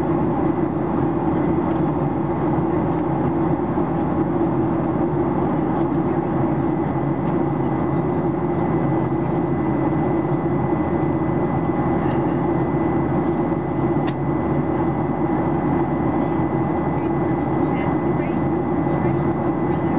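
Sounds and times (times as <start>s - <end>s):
airplane cabin drone: 0.0s - 19.9s.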